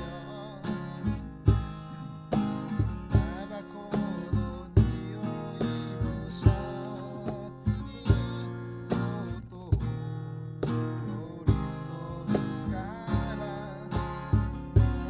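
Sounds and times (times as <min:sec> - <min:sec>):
low thumping beat: 0:00.0 - 0:15.0
strummed acoustic guitar: 0:00.0 - 0:15.0.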